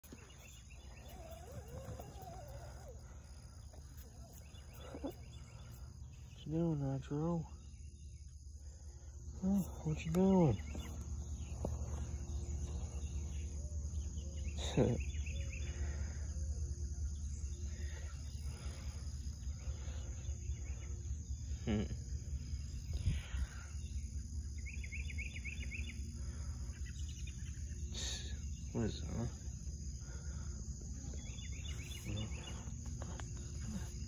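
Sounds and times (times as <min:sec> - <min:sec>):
bird chirping: 0:00.0 - 0:34.0
insects droning: 0:00.0 - 0:34.0.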